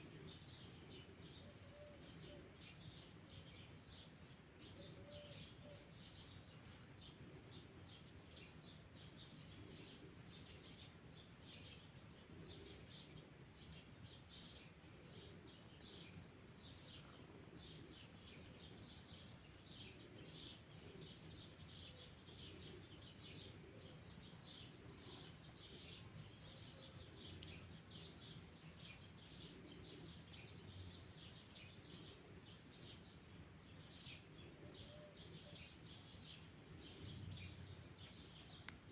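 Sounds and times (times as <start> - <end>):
faint bird chirps: 0.0 - 38.9.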